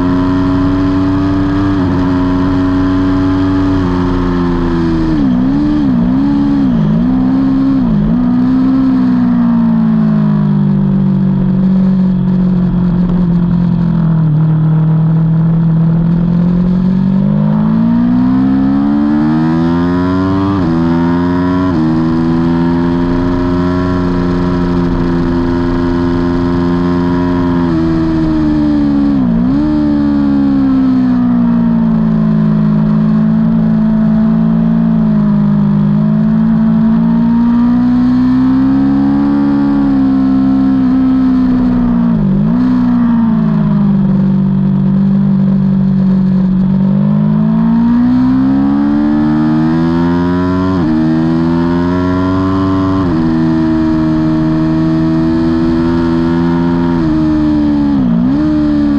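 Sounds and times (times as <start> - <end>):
motorcycle engine at high revs: 0.0 - 58.9.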